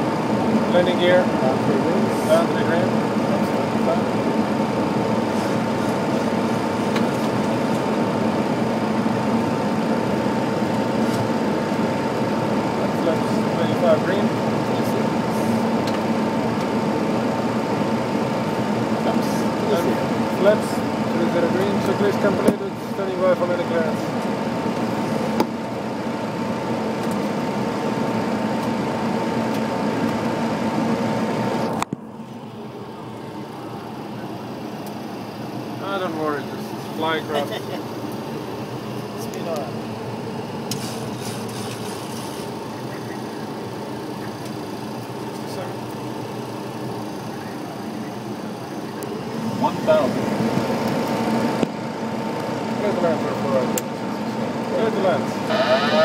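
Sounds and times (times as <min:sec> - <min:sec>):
airflow and engines rushing: 0:00.0 - 0:56.0
constant high hum: 0:00.0 - 0:56.0
thin steady whine: 0:00.0 - 0:56.0.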